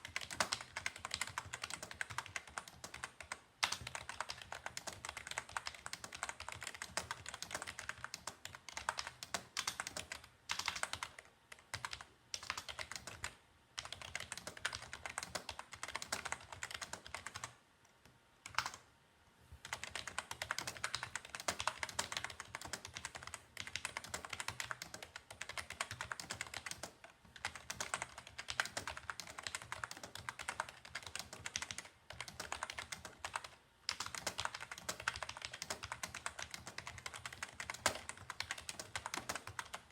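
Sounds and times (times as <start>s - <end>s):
keyboard typing: 0.0s - 18.9s, 19.6s - 39.9s.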